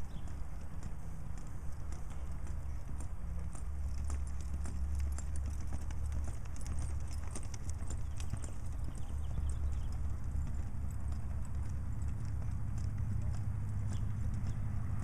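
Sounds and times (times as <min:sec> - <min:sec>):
constant low rumble: 0:00.0 - 0:15.0
horse hoofbeats on dirt: 0:00.0 - 0:15.0.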